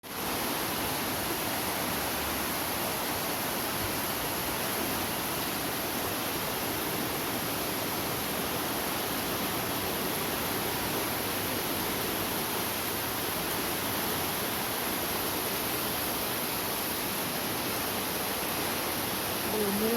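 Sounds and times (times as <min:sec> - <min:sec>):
floodwater rushing: 0:00.0 - 0:19.9.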